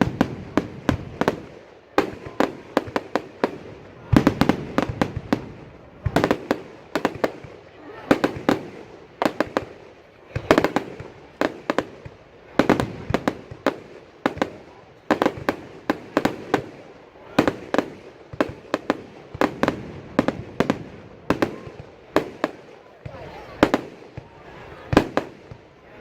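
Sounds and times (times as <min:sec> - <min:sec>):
fireworks bangs: 0:00.0 - 0:25.8.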